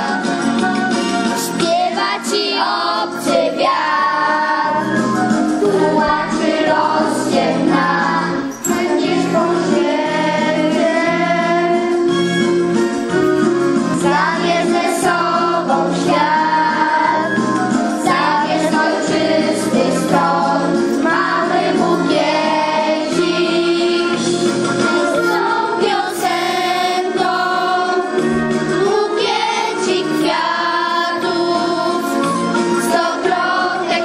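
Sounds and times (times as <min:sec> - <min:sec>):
children's choir singing: 0:01.4 - 0:34.0.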